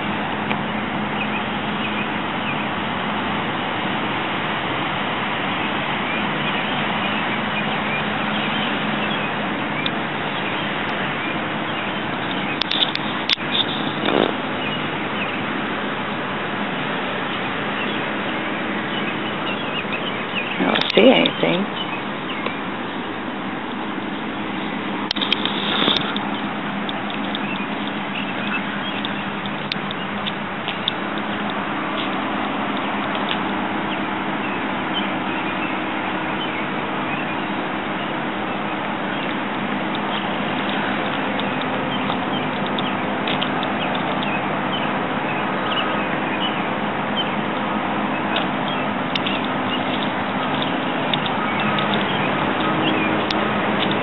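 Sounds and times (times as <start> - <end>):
rushing outdoor background noise: 0.0 - 54.0.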